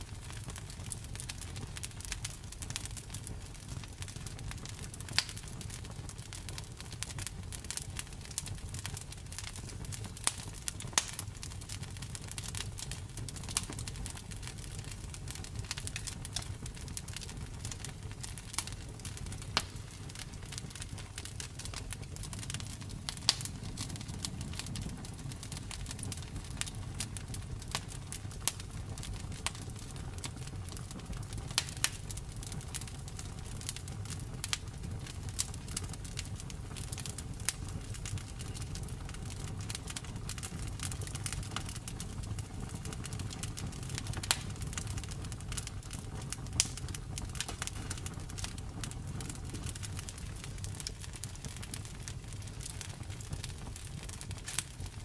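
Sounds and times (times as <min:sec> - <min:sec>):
low rumble of burning fire: 0:00.0 - 0:55.0
wood fire popping and snapping: 0:00.0 - 0:55.0.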